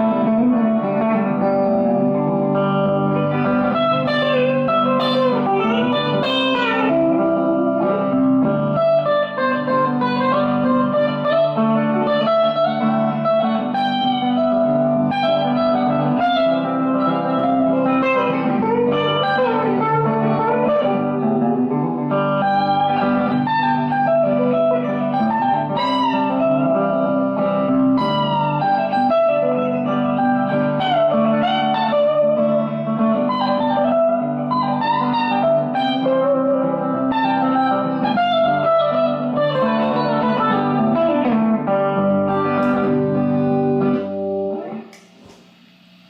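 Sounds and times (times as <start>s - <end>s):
backing track chords: 0.0s - 46.0s
electric guitar lead line: 0.0s - 46.0s.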